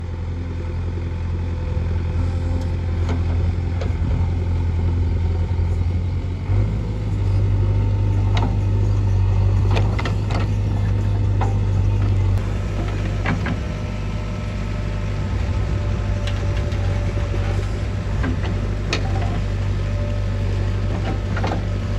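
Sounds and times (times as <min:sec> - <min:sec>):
heavy diesel engine running: 0:00.0 - 0:21.9.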